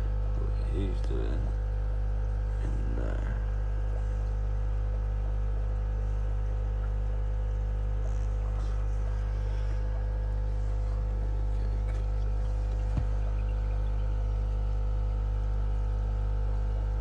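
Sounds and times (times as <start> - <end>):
electrical hum of pumps and filters: 0.0 - 17.0.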